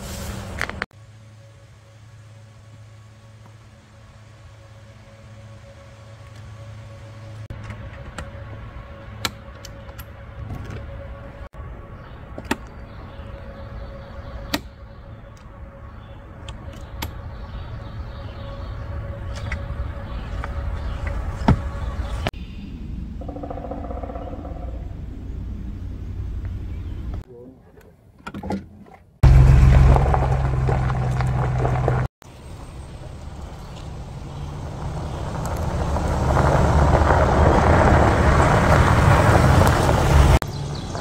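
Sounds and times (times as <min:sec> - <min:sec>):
steady low rumble: 0:00.0 - 0:27.2, 0:29.2 - 0:41.0.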